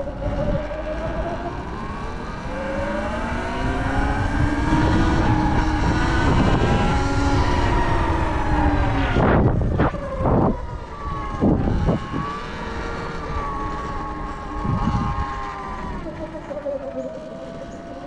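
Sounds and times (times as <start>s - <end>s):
electric dirt bike motor whining: 0.0s - 18.0s
wind noise on microphone: 0.0s - 18.0s.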